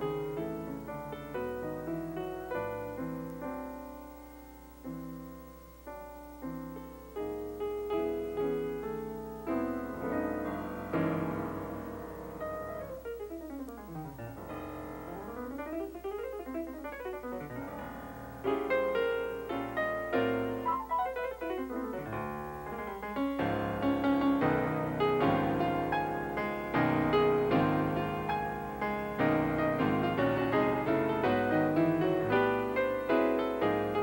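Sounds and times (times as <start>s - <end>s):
solo jazz piano: 0.0s - 34.0s.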